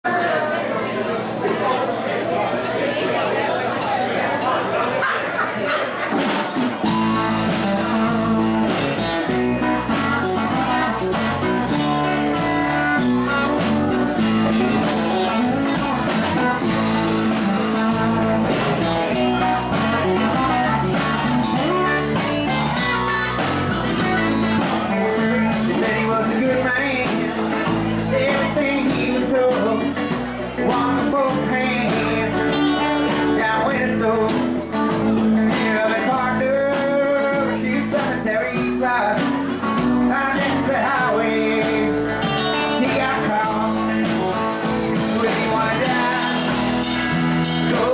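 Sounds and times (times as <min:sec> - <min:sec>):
crowd chatter: 0:00.0 - 0:47.9
live blues rock band: 0:05.4 - 0:47.9.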